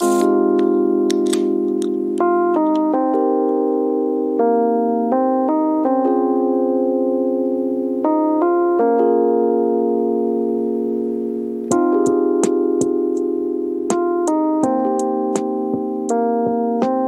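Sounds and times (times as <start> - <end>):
sustained keyboard chords: 0.0 - 17.0.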